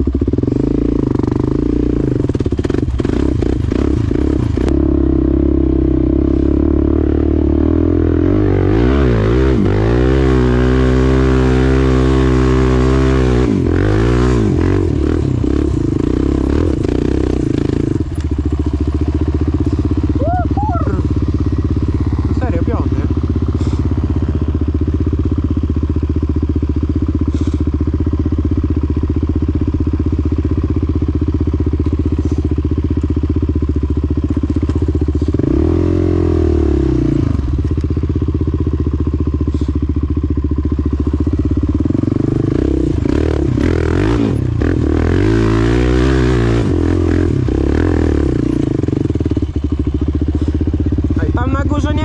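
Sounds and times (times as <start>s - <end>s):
quad engine running and revving: 0.0s - 52.0s.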